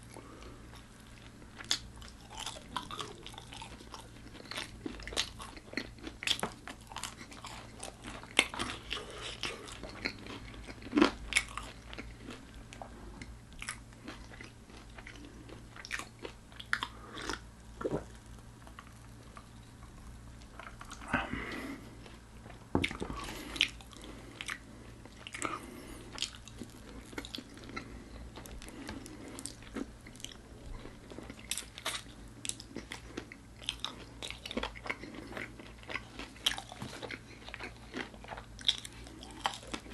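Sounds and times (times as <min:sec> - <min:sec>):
crunching fried chicken: 0:00.2 - 0:39.9.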